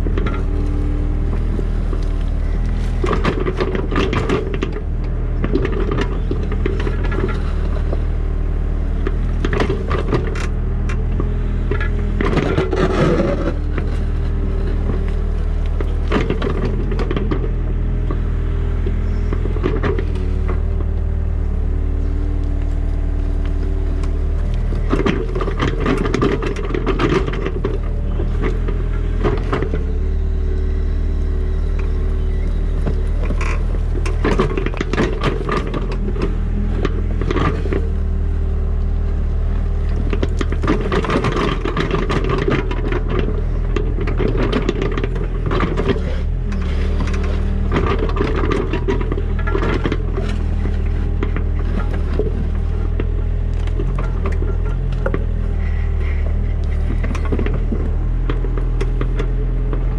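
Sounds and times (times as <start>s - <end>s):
diesel digger engine running: 0.0s - 59.9s
bucket scraping and clanking: 1.2s - 8.1s, 9.0s - 18.2s, 18.9s - 20.9s, 24.1s - 30.2s, 32.8s - 38.3s, 39.9s - 59.9s.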